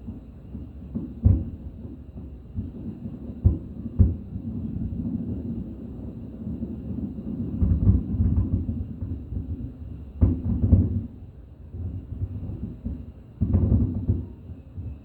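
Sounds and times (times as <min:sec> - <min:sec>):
continuous low rumble: 0:00.0 - 0:15.0
fireworks exploding: 0:00.0 - 0:15.0.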